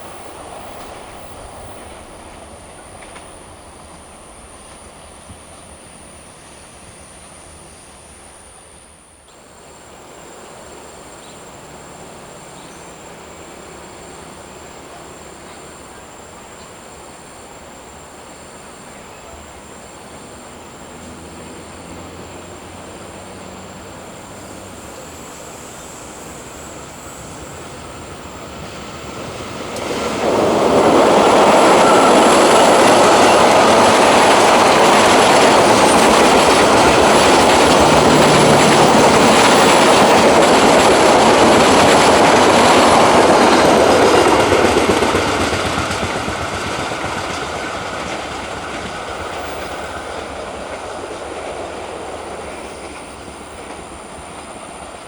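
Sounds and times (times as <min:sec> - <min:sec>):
train wheels running on rails: 0:00.0 - 0:55.0.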